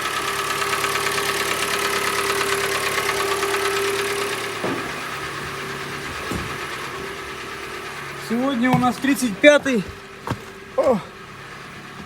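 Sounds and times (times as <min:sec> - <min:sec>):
car engine idling with knock: 0:00.0 - 0:12.0.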